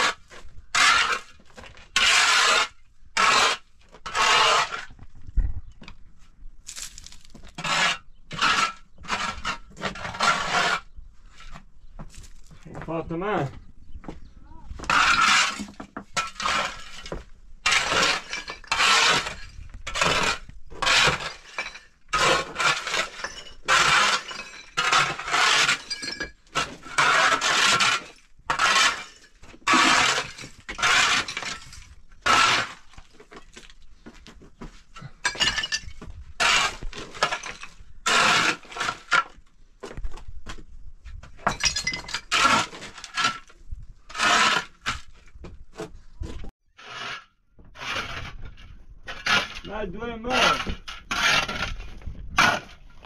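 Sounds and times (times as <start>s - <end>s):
shovel scraping rubble on floor: 0.0s - 5.0s, 6.7s - 11.6s, 14.8s - 40.0s, 41.2s - 53.0s.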